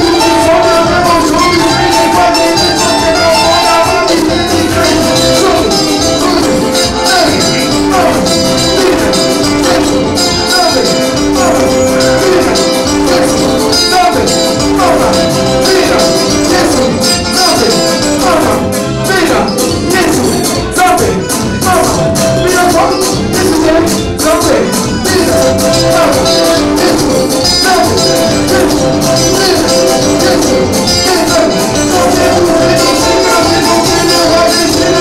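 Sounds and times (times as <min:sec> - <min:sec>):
band playing upbeat dance music: 0:00.0 - 0:35.0
person singing: 0:00.0 - 0:35.0.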